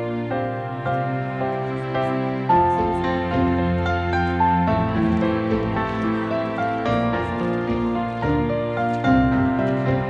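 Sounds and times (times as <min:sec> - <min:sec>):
slow tender background music: 0:00.0 - 0:10.0.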